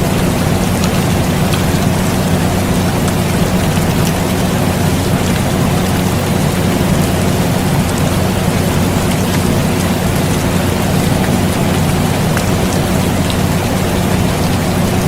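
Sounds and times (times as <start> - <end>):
air conditioner hum: 0.0 - 15.0
rain falling: 0.0 - 15.0.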